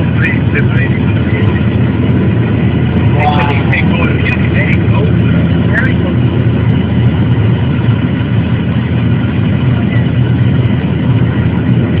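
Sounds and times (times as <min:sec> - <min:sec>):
jet engine and airflow drone: 0:00.0 - 0:12.0.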